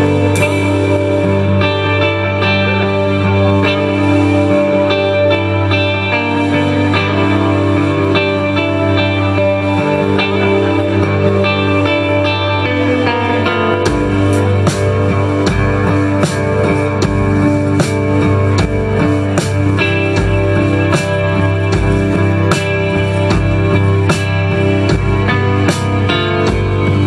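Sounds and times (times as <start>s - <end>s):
drums with kick and cymbals: 0.0s - 27.0s
electric guitars: 0.0s - 27.0s
keyboard: 0.0s - 27.0s.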